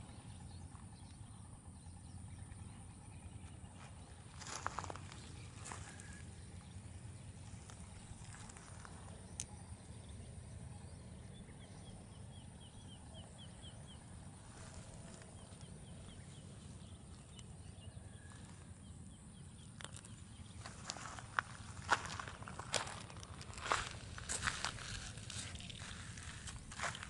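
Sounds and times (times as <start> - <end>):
low steady background rumble: 0.0 - 27.0.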